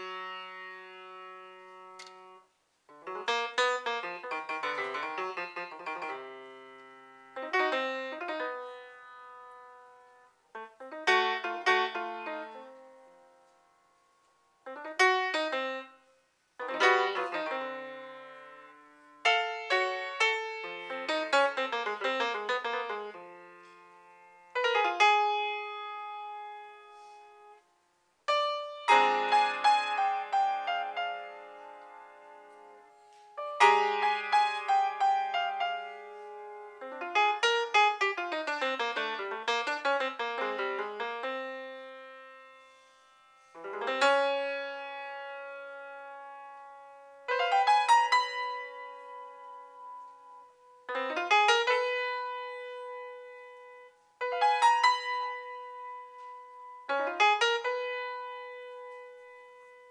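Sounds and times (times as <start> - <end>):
free jazz piano: 0.0 - 13.7, 14.6 - 16.0, 16.6 - 27.6, 28.3 - 59.9.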